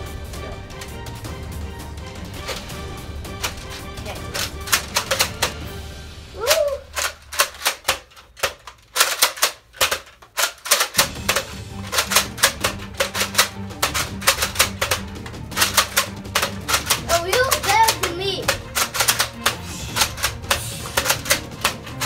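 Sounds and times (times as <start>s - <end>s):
sharp clicks and clacks: 2.4s - 5.6s, 6.5s - 22.0s.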